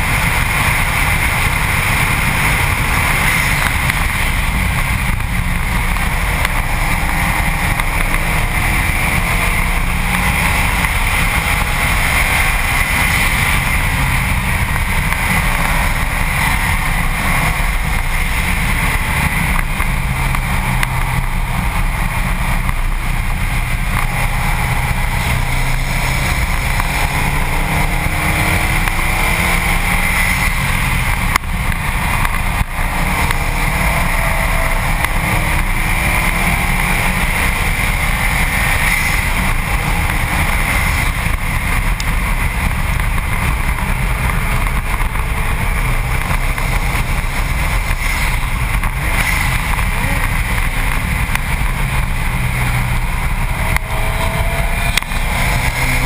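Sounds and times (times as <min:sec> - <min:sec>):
faint car engine: 0:00.0 - 0:56.0
tyre and road noise: 0:00.0 - 0:56.0
wind rush: 0:00.0 - 0:56.0.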